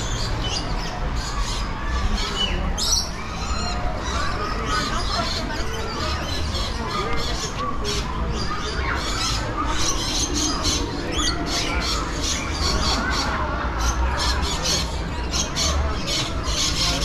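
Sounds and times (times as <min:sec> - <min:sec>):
flock of birds squawking: 0:00.0 - 0:17.0.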